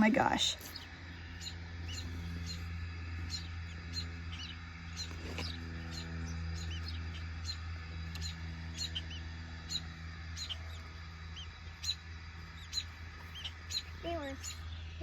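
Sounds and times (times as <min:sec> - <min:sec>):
bird chirping: 0:00.0 - 0:15.0
steady low hum: 0:00.0 - 0:15.0.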